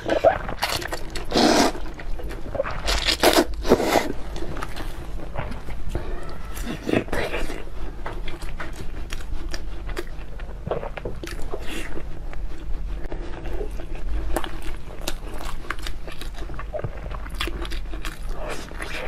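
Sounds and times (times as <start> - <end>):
person chewing with wet mouth sounds: 0.0 - 19.0.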